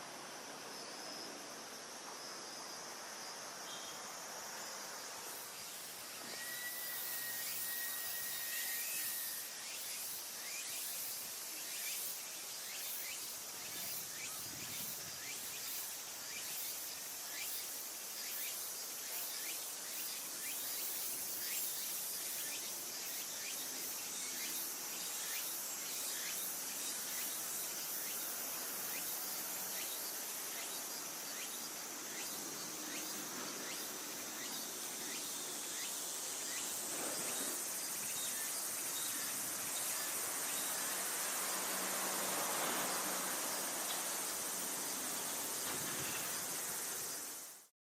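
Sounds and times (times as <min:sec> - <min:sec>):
crickets trilling: 0:00.0 - 0:47.6
short insect chirps: 0:03.6 - 0:47.7.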